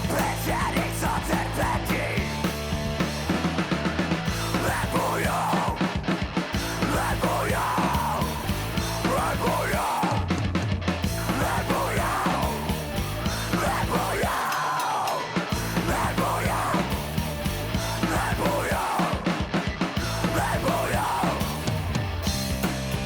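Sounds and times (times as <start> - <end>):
person singing lead vocal: 0.0 - 2.6, 4.4 - 10.4, 11.1 - 22.0
heavy rock music: 0.0 - 23.0.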